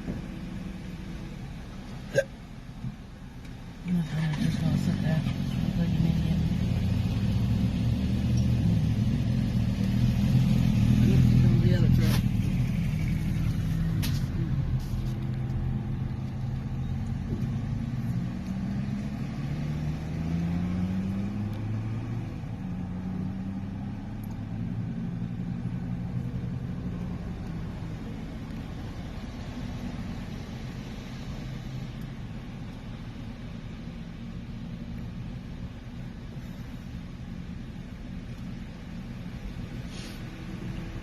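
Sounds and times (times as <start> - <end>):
diesel engine accelerating through gears: 0.0 - 41.0.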